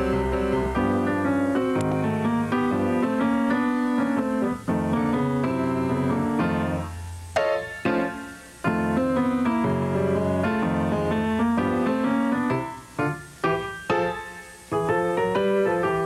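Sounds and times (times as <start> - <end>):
piano keyboard music: 0.0 - 16.0.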